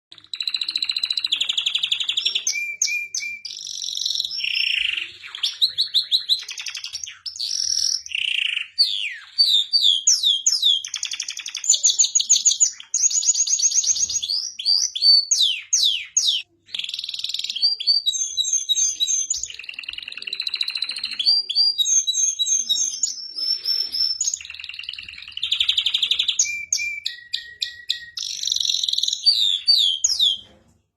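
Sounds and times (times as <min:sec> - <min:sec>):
canary singing trills: 0:00.1 - 0:30.5.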